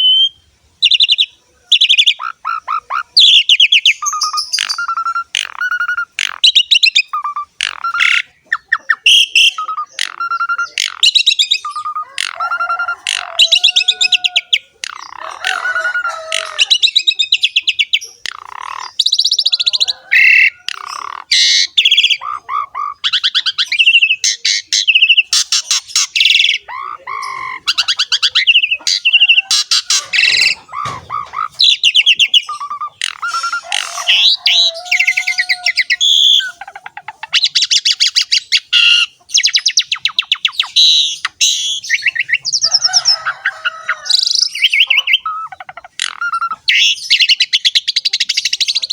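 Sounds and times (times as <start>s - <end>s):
starling singing: 0.0s - 48.9s.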